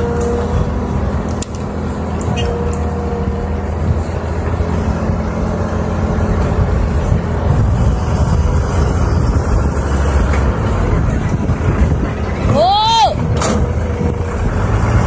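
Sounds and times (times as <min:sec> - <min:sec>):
dump truck diesel engine: 0:00.0 - 0:15.0
excavator engine running: 0:00.0 - 0:15.0.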